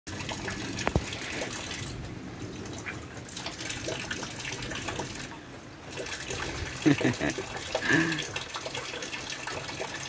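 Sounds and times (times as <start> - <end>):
rainwater splashing into a barrel: 0.1 - 10.0.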